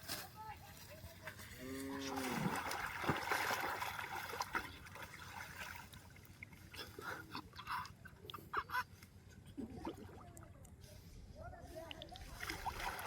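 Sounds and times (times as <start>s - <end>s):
water splashing and trickling: 0.4s - 8.4s, 9.4s - 13.0s.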